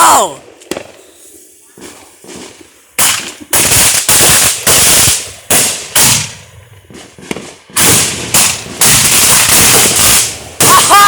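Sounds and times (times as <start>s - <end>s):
fireworks reports: 0.0s - 11.0s.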